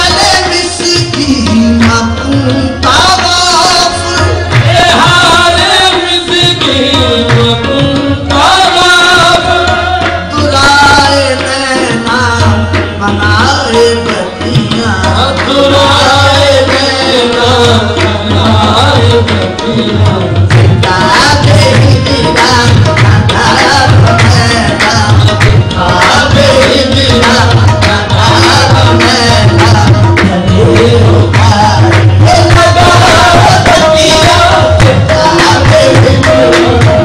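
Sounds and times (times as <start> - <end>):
tabla beating: 0.0 - 37.0.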